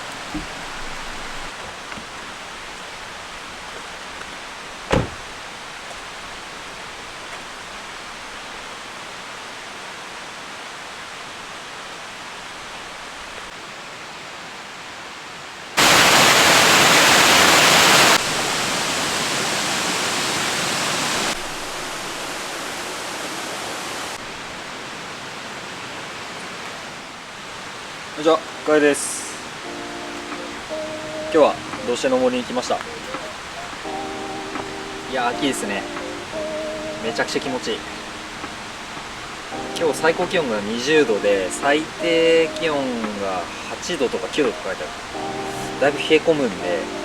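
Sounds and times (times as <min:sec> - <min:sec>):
flowing water rushing: 0:00.0 - 0:47.0.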